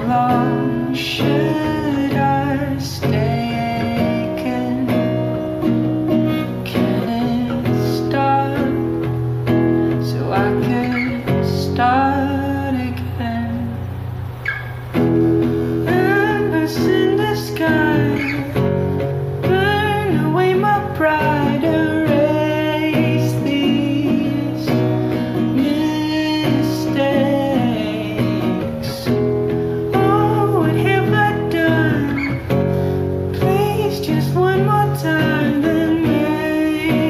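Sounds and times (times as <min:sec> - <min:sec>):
person singing: 0:00.0 - 0:13.9, 0:15.4 - 0:37.0
guitar accompaniment: 0:00.0 - 0:37.0.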